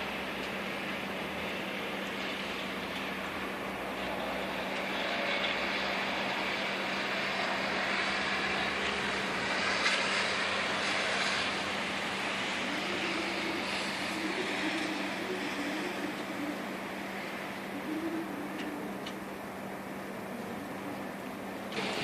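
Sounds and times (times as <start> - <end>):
vehicle passing: 0.0 - 18.9
constant low hum: 0.0 - 22.0
road traffic hiss: 0.0 - 22.0.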